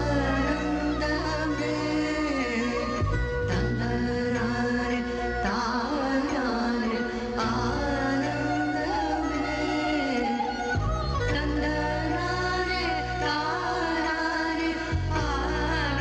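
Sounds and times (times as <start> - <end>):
song with instrumental accompaniment: 0.0 - 16.0.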